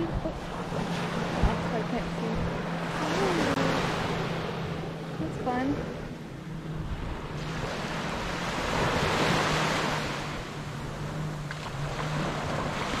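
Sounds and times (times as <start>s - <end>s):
small waves washing onto beach: 0.0s - 13.0s
wind on microphone: 0.0s - 13.0s.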